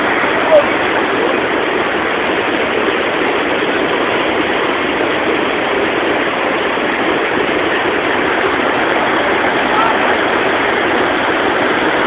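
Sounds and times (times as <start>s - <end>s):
water rushing over a weir: 0.0s - 12.0s.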